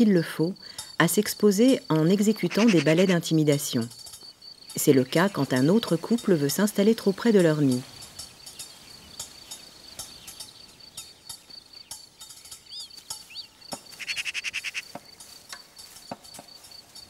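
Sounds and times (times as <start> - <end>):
cricket trilling: 0.0 - 17.0.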